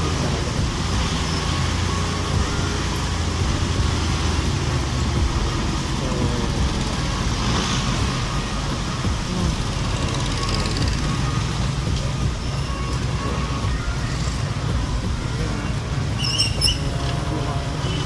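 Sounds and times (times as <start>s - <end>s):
road and traffic noise: 0.0s - 18.0s.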